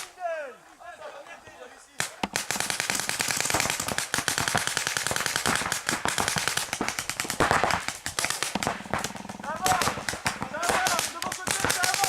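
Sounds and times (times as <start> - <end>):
paintball markers firing: 2.0 - 12.0.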